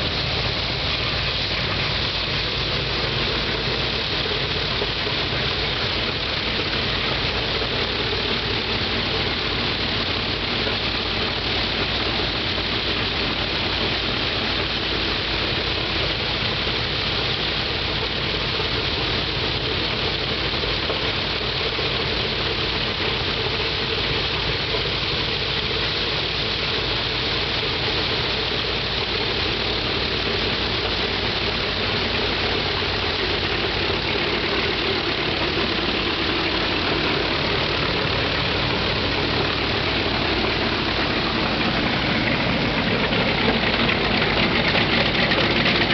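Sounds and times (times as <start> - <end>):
radial aircraft engine running: 0.0 - 45.9.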